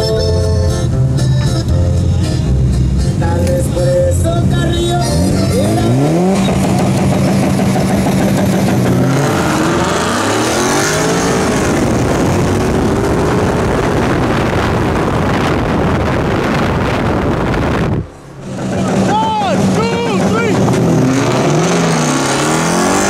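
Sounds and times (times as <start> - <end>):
car engines at full throttle: 0.8 - 23.0.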